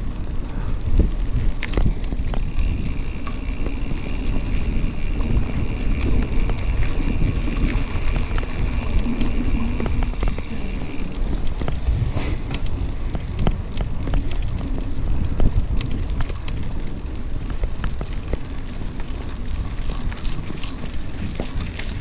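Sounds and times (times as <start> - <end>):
bike tyres crackling and clicking: 0.0 - 22.0
wind buffeting microphone: 0.0 - 22.0.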